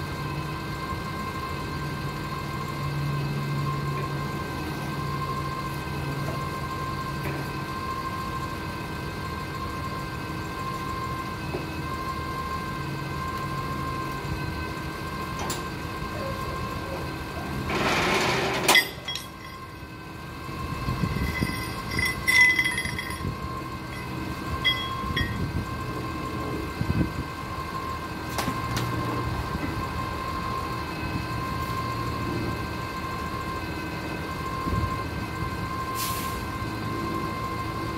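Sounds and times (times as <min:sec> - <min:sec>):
idling engine hum: 0:00.0 - 0:37.9.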